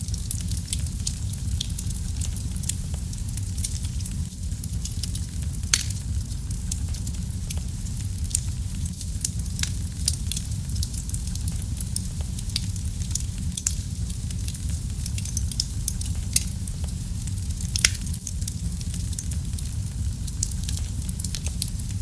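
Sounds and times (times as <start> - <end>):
wood fire crackling in fireplace: 0.0 - 22.0.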